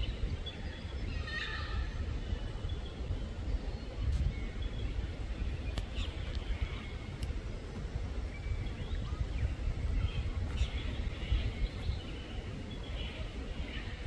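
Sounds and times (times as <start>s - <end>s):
forest birds chirping: 0.0s - 14.0s
steady low rumble: 0.0s - 14.0s.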